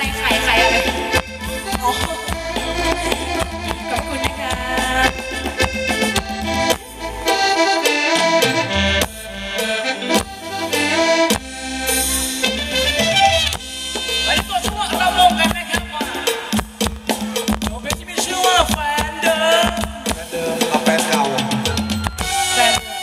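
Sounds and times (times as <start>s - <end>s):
live dance band instrumental: 0.0s - 23.0s
steady drum beat: 0.0s - 23.0s.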